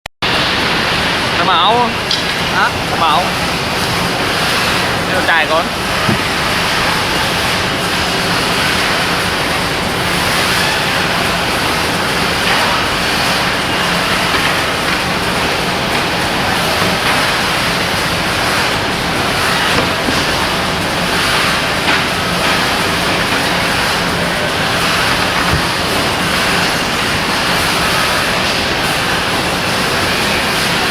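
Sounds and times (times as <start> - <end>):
loud mechanical noise: 0.2 - 30.9.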